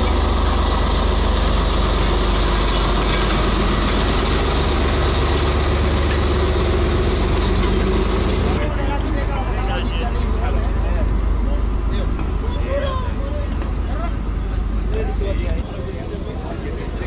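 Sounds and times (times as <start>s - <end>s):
large diesel engine idling: 0.0s - 17.0s.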